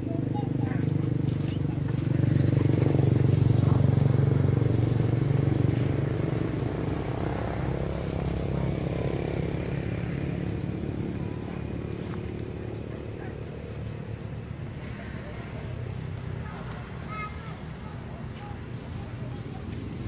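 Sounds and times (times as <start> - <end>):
motor vehicle engine running: 0.0 - 20.0.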